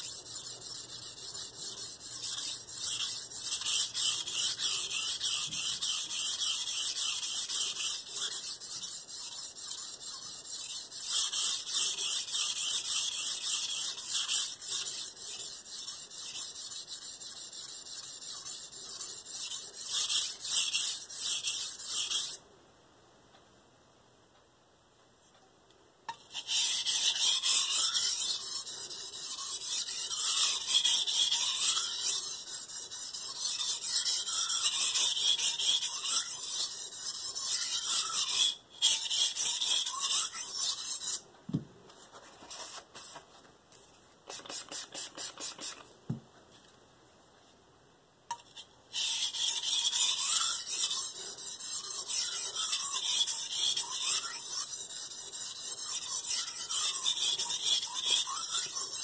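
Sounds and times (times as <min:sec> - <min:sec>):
knife scraping on whetstone: 0:00.0 - 0:22.4, 0:26.1 - 0:41.2, 0:48.3 - 0:59.0.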